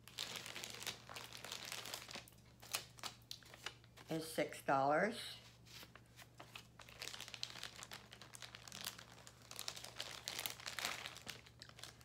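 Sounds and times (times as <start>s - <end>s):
wrapping crinkling and rustling: 0.0s - 4.3s, 5.4s - 12.0s.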